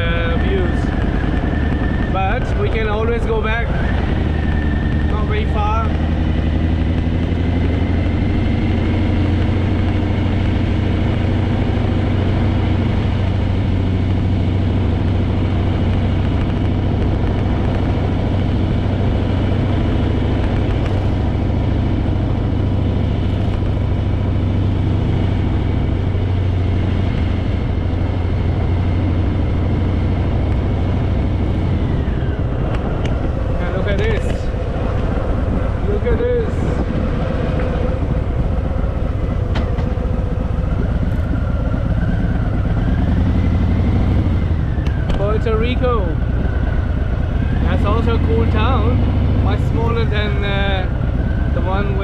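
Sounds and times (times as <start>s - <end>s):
motorcycle engine running: 0.0s - 52.0s
road and wind rush: 0.0s - 52.0s.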